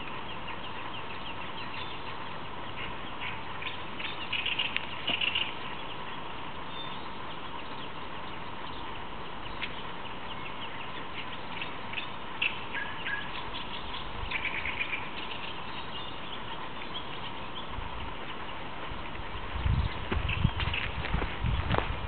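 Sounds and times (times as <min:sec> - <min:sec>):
birds chirping: 0:00.0 - 0:22.0
faint steady hum: 0:00.0 - 0:22.0.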